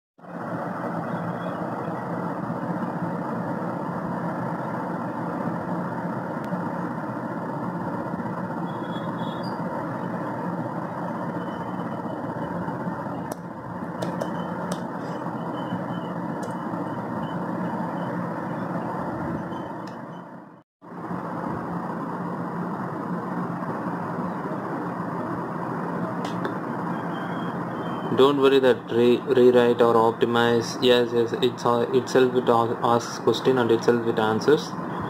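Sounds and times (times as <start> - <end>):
steady hum: 0.2 - 35.0.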